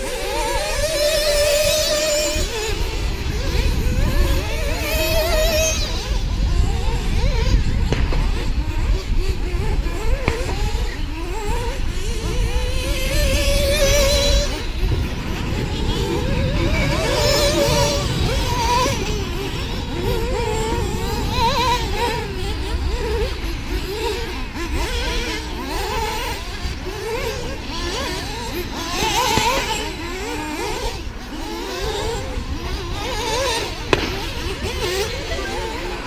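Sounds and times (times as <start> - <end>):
rc car motors whining: 0.0 - 36.0.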